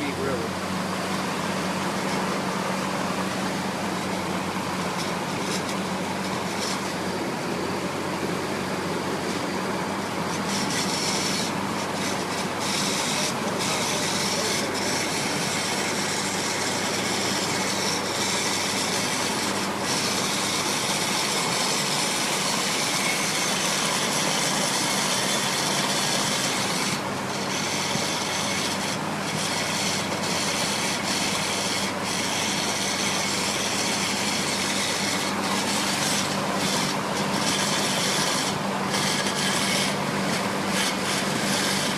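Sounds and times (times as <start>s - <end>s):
vehicle driving noise: 0.0s - 41.9s.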